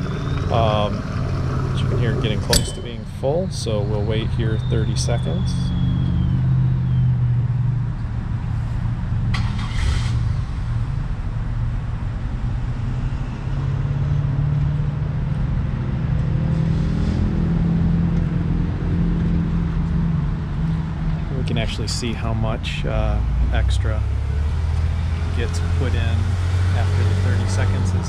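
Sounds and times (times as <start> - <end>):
engine running hum: 0.0 - 28.0.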